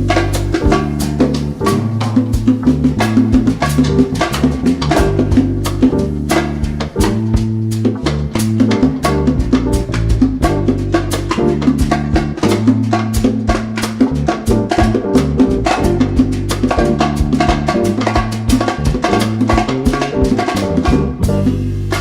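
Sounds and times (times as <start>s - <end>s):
bass line: 0.0s - 22.0s
percussion strikes: 0.0s - 22.0s.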